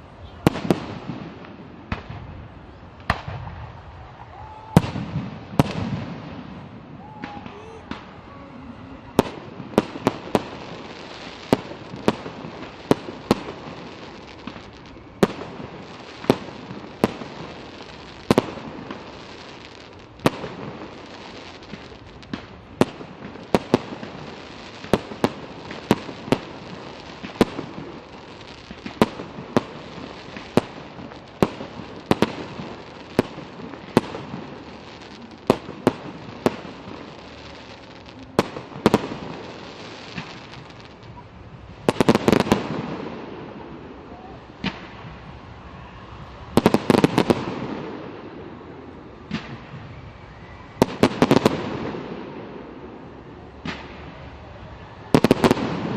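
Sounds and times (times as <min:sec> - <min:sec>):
continuous hiss: 0:00.0 - 0:55.9
fireworks bursting: 0:00.0 - 0:55.9.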